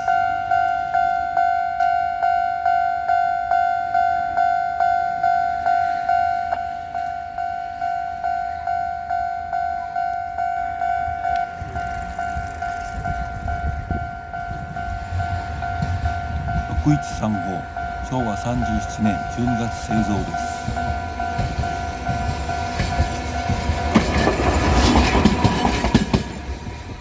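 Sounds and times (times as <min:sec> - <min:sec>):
level crossing bell ringing: 0:00.0 - 0:23.8
tram rumbling past: 0:00.0 - 0:27.0.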